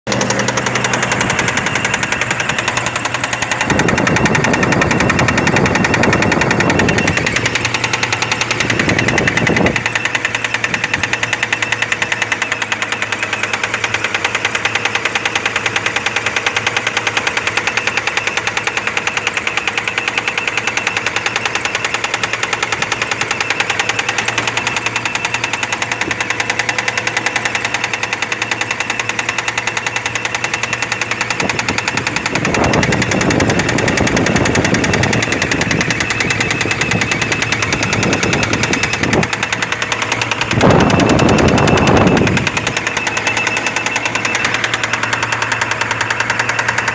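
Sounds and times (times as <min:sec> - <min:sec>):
car engine running: 0:00.0 - 0:46.9
fast even engine knocking: 0:00.0 - 0:46.9.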